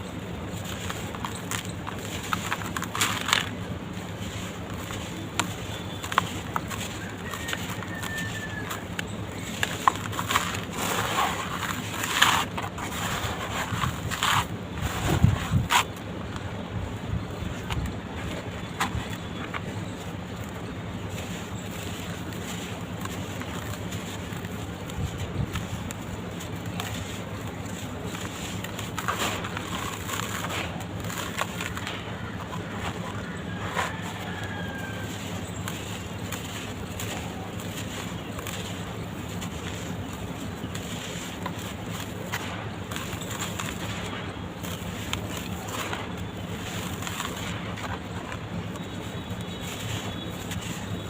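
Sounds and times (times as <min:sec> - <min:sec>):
dirt lumps crunching: 0:00.0 - 0:51.0
steady low hum: 0:00.0 - 0:51.0.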